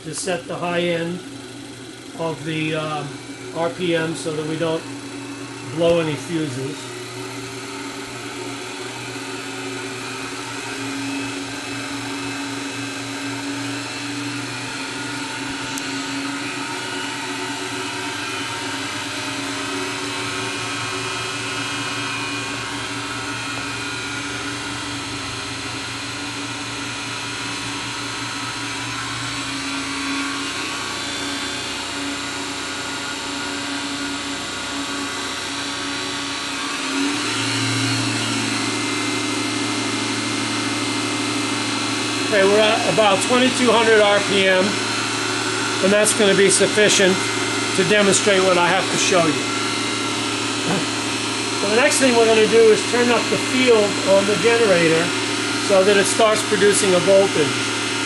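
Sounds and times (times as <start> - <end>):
generator whirring: 0.0 - 58.0.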